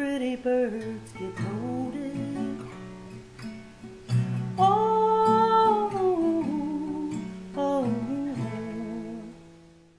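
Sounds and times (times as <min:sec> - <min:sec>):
acoustic guitar: 0:00.0 - 0:09.9.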